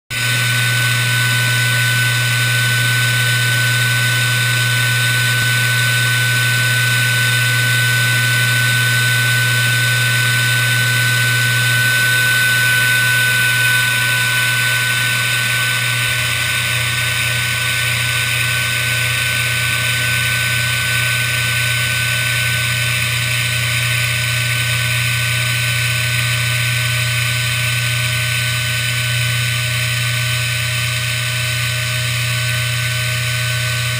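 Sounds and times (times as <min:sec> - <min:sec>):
router spindle high whine: 0:00.1 - 0:33.9
cutter hissing in material: 0:00.2 - 0:33.9.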